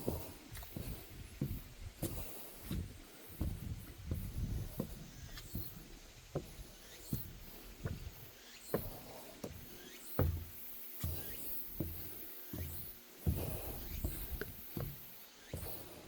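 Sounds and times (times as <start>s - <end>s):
footsteps on wooden deck: 0.0s - 16.0s.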